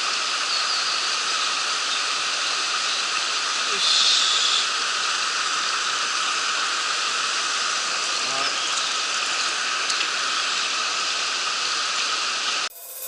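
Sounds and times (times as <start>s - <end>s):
stream rushing over rocks: 0.0s - 12.7s.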